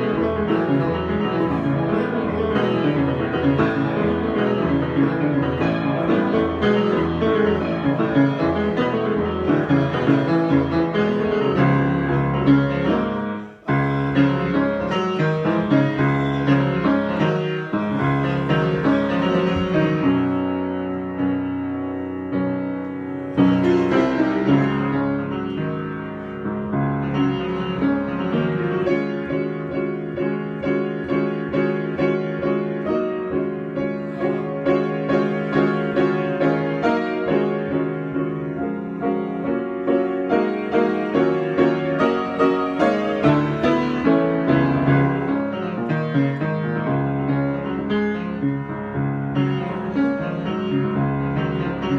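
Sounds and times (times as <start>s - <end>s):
solo piano chords: 0.0s - 51.9s.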